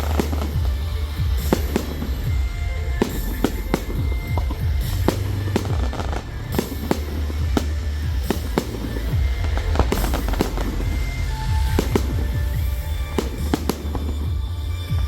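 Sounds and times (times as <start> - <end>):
fireworks bangs and cracks: 0.0 - 15.0
loud music with heavy bass: 0.0 - 15.0.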